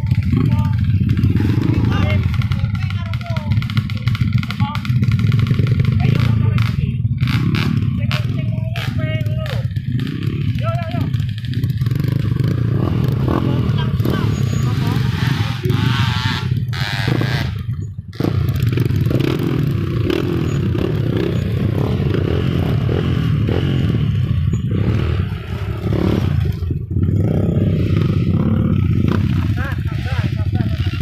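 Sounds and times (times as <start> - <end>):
vehicles passing close by: 0.0 - 31.0.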